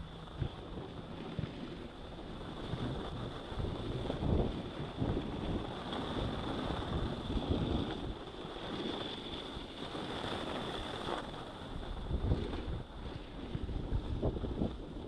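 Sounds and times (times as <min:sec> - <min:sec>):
wind on microphone: 0:00.0 - 0:15.0
skis scraping packed snow: 0:00.2 - 0:15.0.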